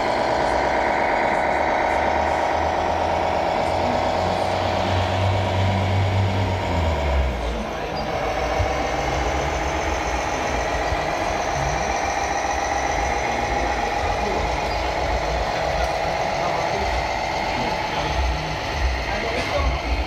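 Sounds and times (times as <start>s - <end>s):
toy truck motor running: 0.0s - 20.0s.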